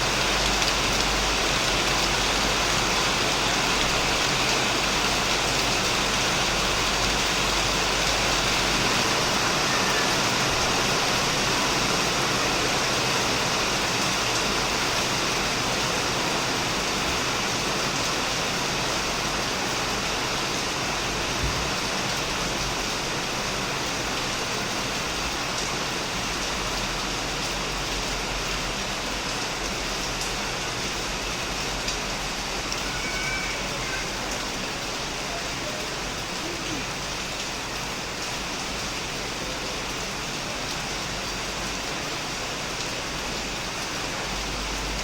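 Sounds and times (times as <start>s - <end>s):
heavy rain on a shed roof: 0.0s - 45.0s.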